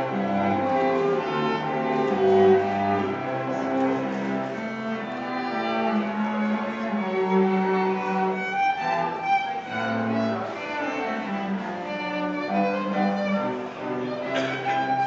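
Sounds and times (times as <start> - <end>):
low cello note: 0.0 - 15.0
string ensemble bowed notes: 0.0 - 15.0.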